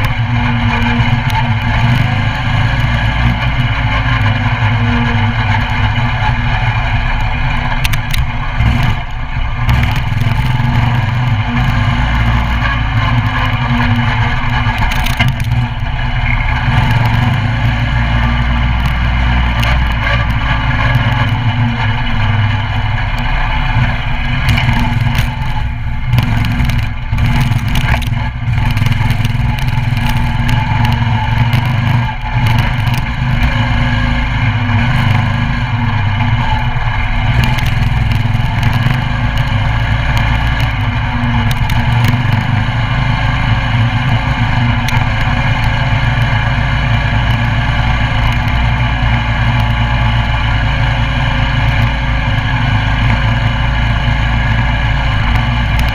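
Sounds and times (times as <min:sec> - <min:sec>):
mini bike engine running: 0:00.0 - 0:55.9
rattling clatter: 0:00.0 - 0:55.9.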